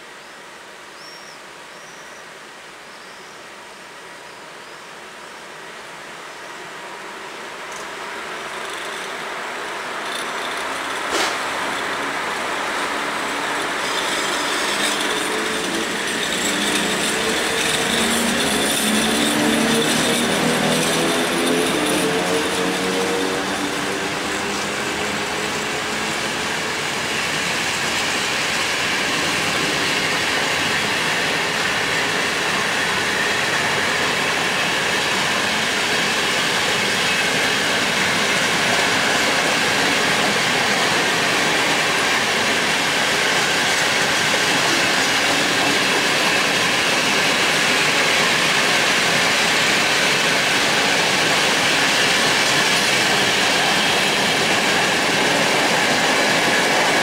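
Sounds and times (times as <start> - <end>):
freight train wheels rumbling on rails: 6.5 - 57.0.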